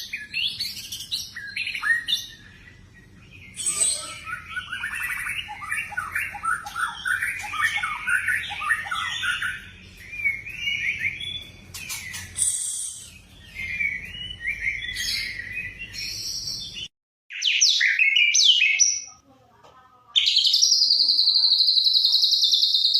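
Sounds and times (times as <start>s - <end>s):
bird singing whistled song: 0.0s - 19.1s, 20.2s - 22.9s.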